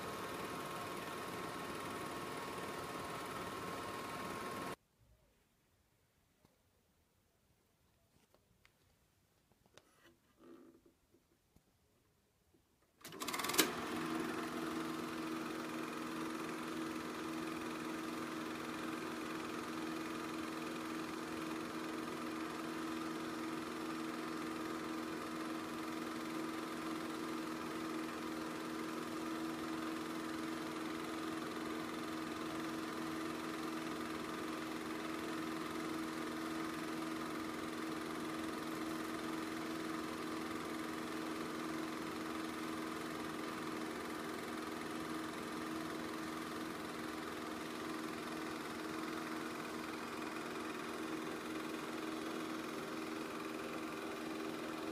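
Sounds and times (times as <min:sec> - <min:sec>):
film projector humming: 0:00.0 - 0:04.8, 0:13.0 - 0:54.9.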